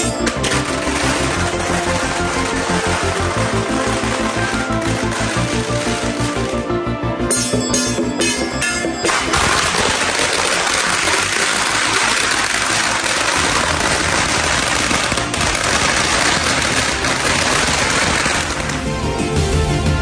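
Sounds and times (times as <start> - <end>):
firecrackers crackling: 0.0 - 19.6.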